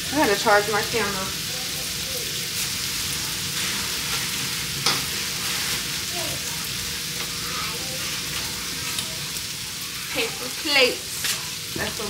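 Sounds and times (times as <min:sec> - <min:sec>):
bacon sizzling on griddle: 0:00.0 - 0:12.0.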